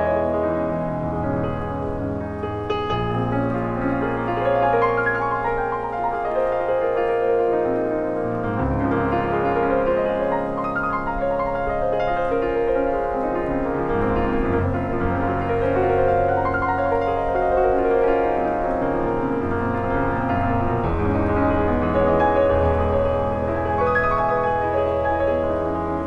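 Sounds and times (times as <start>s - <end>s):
piano with long held notes: 0.0s - 26.0s.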